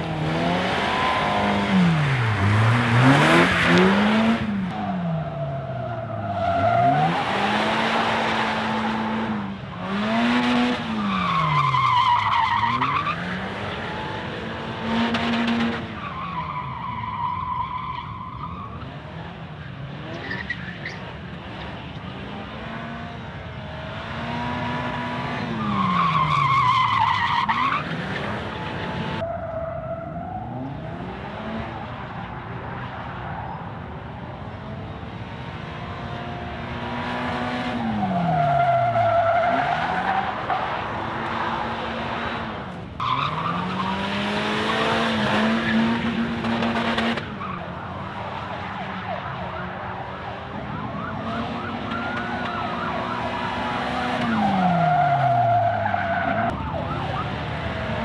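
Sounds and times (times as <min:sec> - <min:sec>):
car engine revving: 0:00.0 - 0:17.7, 0:18.7 - 0:33.2, 0:34.1 - 0:58.0
tyre squealing and skidding: 0:00.0 - 0:23.0, 0:24.0 - 0:34.6, 0:35.8 - 0:58.0.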